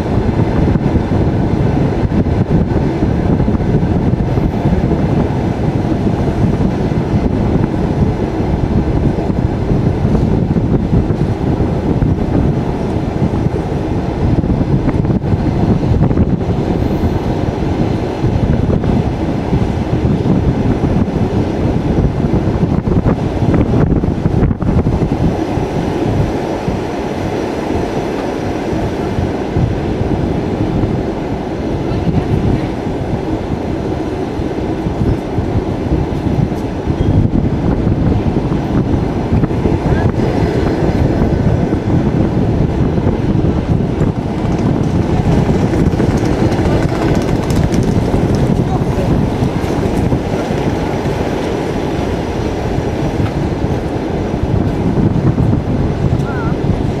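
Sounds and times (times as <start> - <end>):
railway carriage rumble: 0.0 - 57.0.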